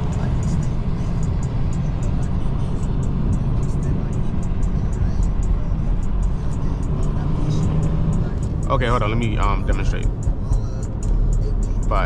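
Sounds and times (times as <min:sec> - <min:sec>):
music on car stereo: 0:00.0 - 0:12.0
road and engine rumble: 0:00.0 - 0:12.0.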